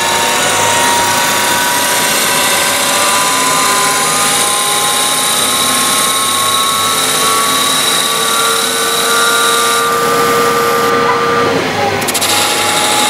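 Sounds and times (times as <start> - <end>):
lathe machine whine: 0.0 - 13.0
metal cutting noise: 0.0 - 13.0.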